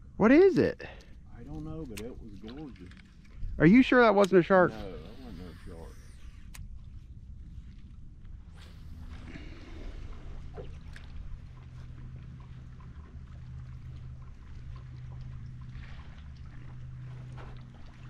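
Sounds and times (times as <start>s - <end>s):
low wind rumble: 0.0s - 18.0s
steady low hum: 0.0s - 18.0s
water lapping against boat hull: 0.8s - 3.6s, 4.2s - 18.0s.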